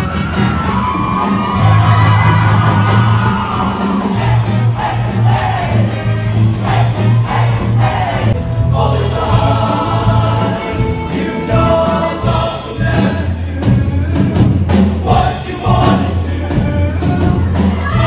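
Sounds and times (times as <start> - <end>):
band playing: 0.0 - 18.0
sustained bass line: 0.0 - 18.0
choir singing: 2.9 - 18.0.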